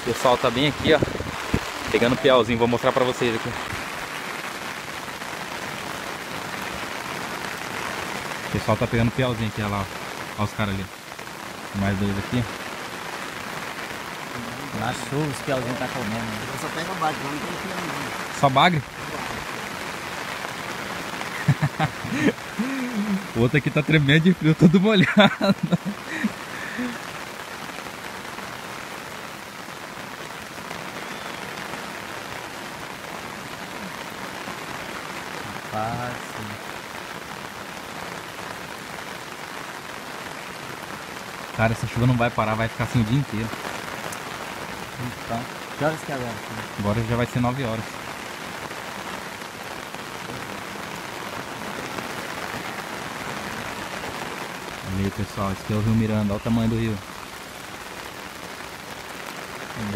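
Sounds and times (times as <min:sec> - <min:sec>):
heavy rain on river: 0:00.0 - 0:59.9.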